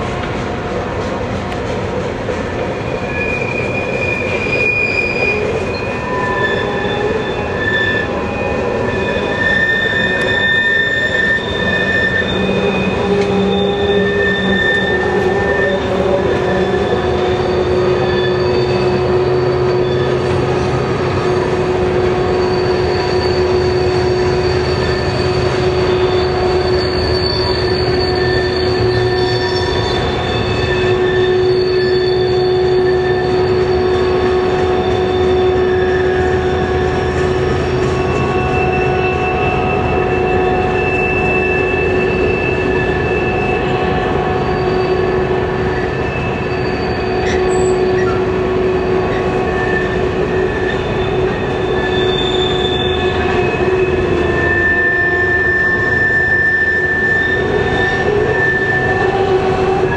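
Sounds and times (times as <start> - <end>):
diesel locomotives rumbling: 0.0 - 59.9
train wheels squealing on rails: 0.0 - 59.9.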